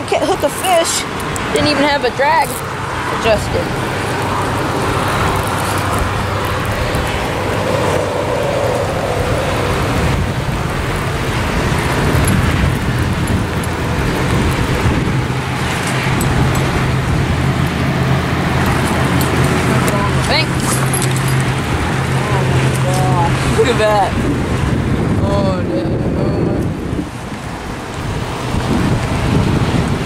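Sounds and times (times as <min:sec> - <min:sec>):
rain: 0:00.0 - 0:30.0
road traffic: 0:00.0 - 0:30.0.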